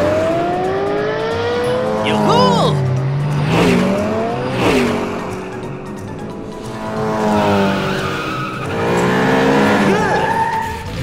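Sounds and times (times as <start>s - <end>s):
background music: 0.0s - 11.0s
cartoon race car engines revving: 0.0s - 11.0s.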